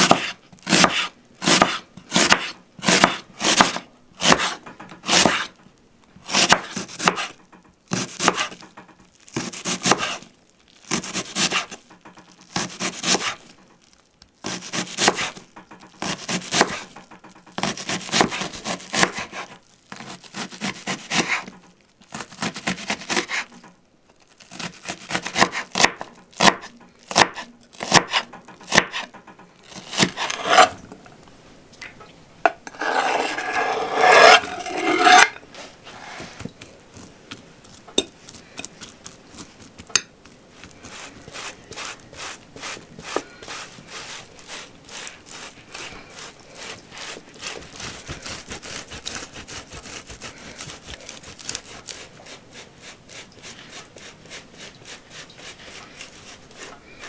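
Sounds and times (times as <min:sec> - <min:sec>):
knife cutting onion on wooden board: 0:00.0 - 0:05.6, 0:06.2 - 0:10.3, 0:10.9 - 0:13.5, 0:14.4 - 0:23.7, 0:24.5 - 0:30.8, 0:32.6 - 0:57.0.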